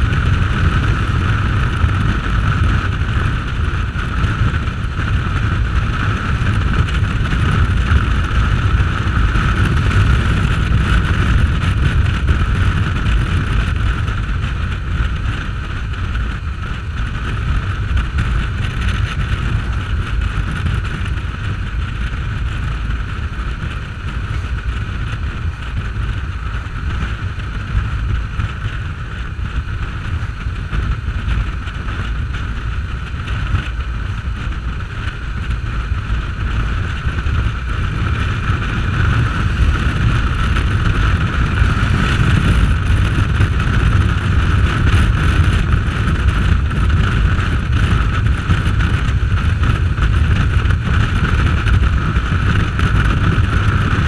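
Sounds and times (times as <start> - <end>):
motorcycle engine and road drone: 0.0 - 54.0
wind buffeting microphone: 0.0 - 54.0.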